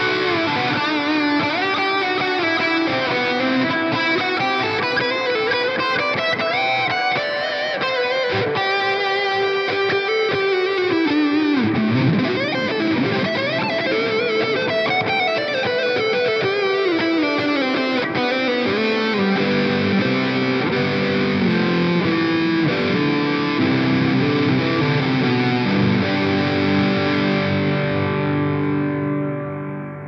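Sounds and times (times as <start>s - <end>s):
electric guitar lead and chords: 0.0s - 30.0s.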